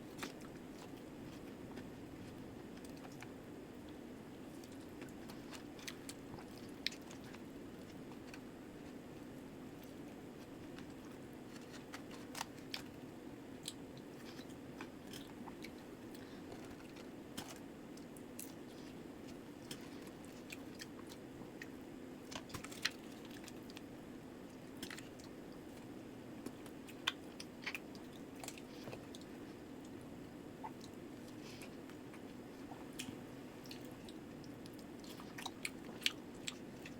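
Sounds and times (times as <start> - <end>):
chewing crispy fried chicken: 0.0 - 36.9.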